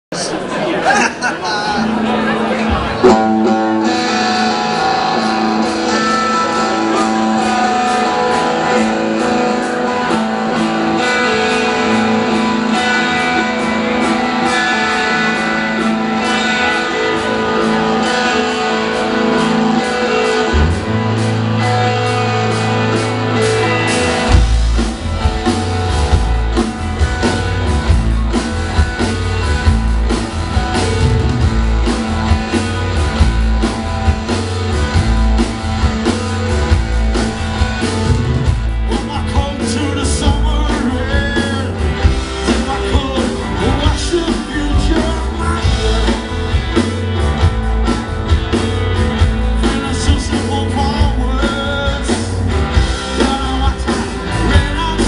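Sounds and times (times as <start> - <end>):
drums: 0.1 - 55.0
electric guitars: 0.2 - 55.0
bass guitar: 1.2 - 55.0.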